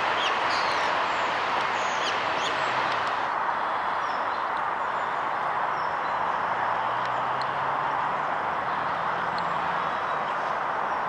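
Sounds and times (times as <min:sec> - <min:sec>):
song thrush singing: 0:00.0 - 0:11.0.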